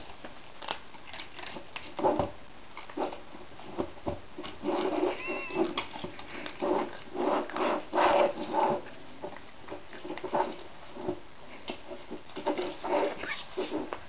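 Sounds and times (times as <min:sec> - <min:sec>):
cats chewing: 0:00.0 - 0:14.0.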